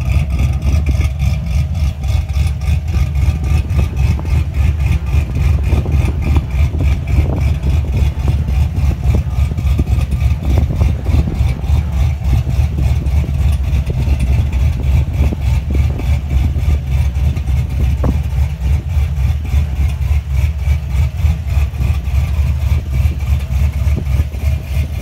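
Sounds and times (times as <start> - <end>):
truck engine choppy idle: 0.0 - 25.0.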